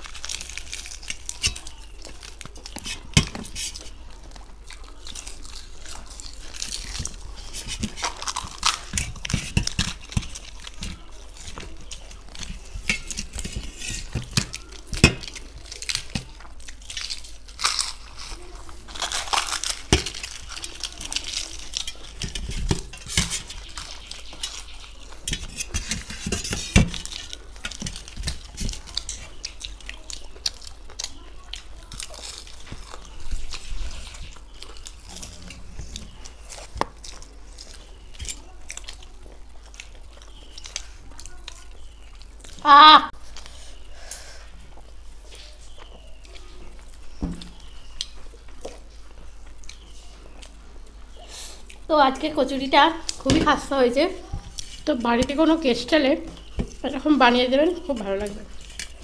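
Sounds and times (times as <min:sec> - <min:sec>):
crunchy pastry being chewed: 0:00.0 - 0:59.0.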